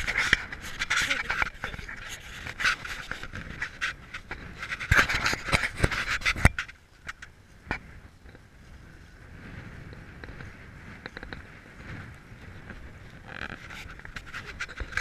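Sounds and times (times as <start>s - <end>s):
breathy rustling noise: 0.0s - 15.0s.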